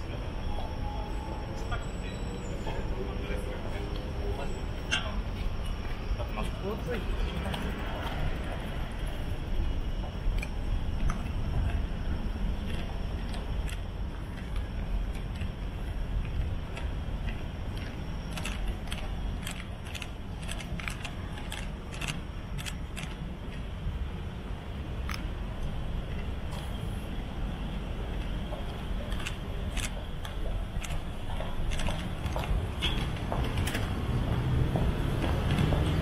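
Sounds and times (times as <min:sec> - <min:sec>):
low rumble of traffic: 0:00.0 - 0:36.0.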